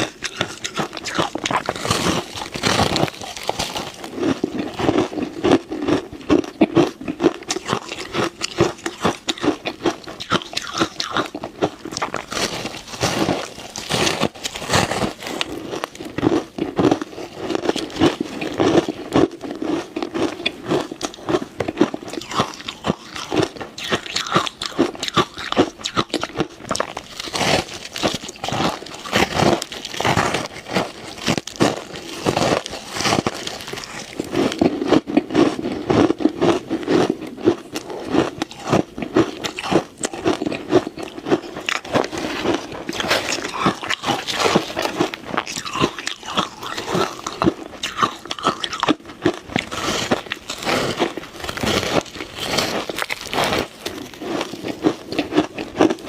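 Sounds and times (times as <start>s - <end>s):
ice crunching while chewed: 0.0s - 56.0s.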